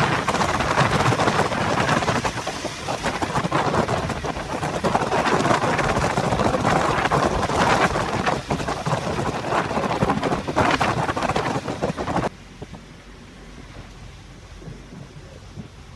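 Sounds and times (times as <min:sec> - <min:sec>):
wind: 0:00.0 - 0:15.9.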